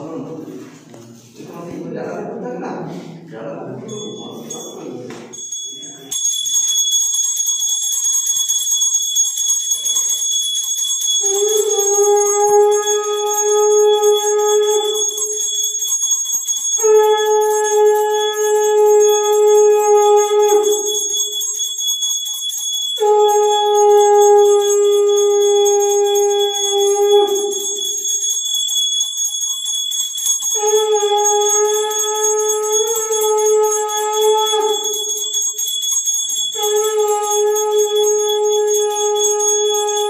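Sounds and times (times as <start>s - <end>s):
hand bell ringing: 3.8s - 40.0s.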